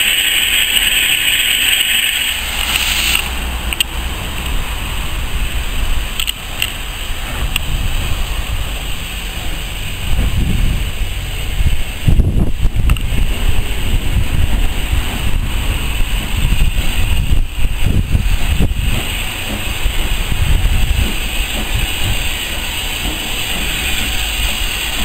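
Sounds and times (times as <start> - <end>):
distant steam train rumble: 0.0 - 25.0
wind buffeting microphone: 3.5 - 25.0.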